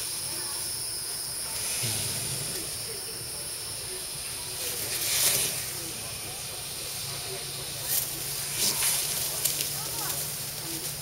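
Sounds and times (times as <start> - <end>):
alligator hissing: 0.0 - 11.0.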